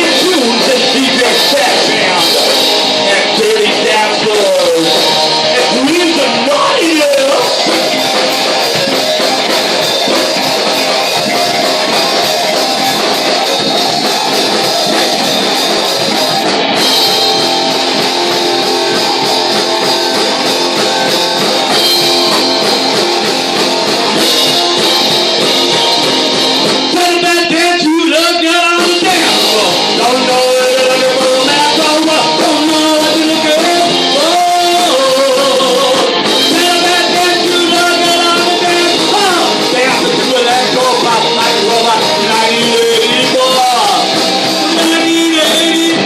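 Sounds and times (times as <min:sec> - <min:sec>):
electric guitar: 0:00.0 - 0:46.0
live rock band playing: 0:00.0 - 0:46.0
person singing: 0:00.0 - 0:46.0.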